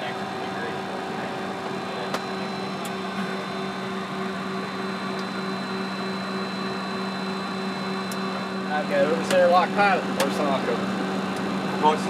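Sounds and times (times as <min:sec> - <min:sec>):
constant tones: 0:00.0 - 0:10.8
cockpit hum and hiss: 0:00.0 - 0:12.0.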